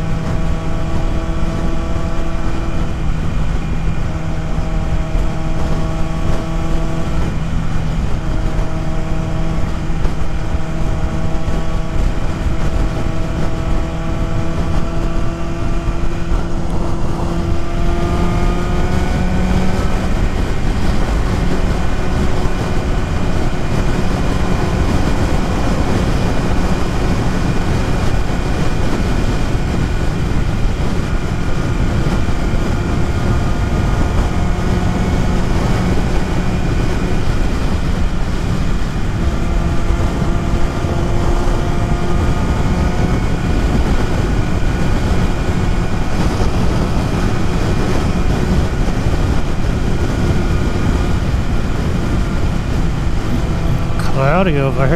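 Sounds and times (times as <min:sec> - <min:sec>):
motorcycle engine cruising: 0:00.0 - 0:54.9
wind and road noise: 0:00.0 - 0:54.9.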